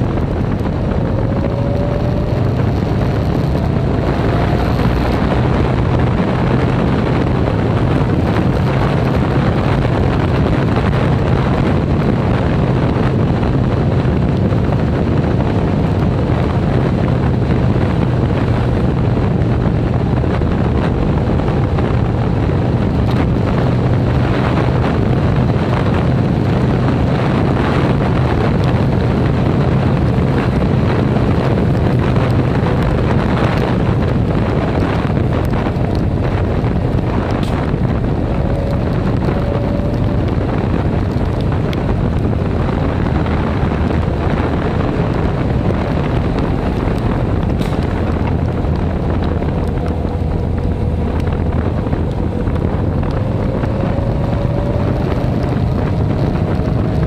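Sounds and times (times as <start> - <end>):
motorcycle engine drone: 0.0 - 57.0
wind rush over microphone: 0.0 - 57.0.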